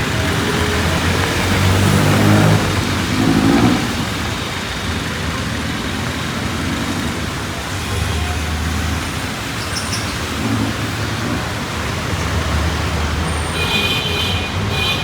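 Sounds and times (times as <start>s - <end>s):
heavy rain hissing: 0.0s - 13.6s
vehicle engines passing: 0.0s - 15.0s.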